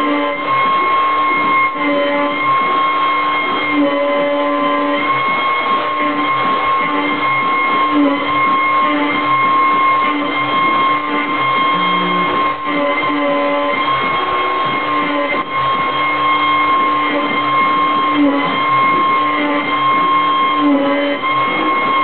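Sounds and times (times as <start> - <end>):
router spindle whine: 0.0 - 22.0
stepper motor notes: 0.0 - 22.0.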